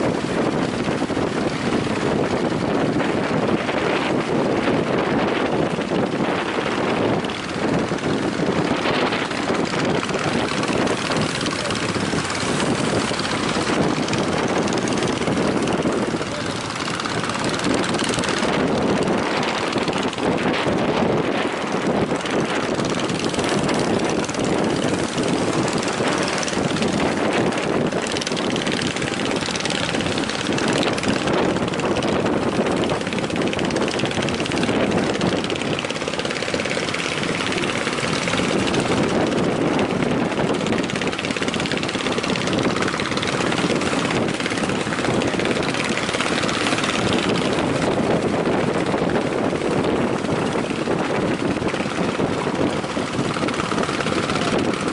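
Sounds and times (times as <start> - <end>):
surf rushing: 0.0 - 54.9
wind buffeting microphone: 0.0 - 54.9.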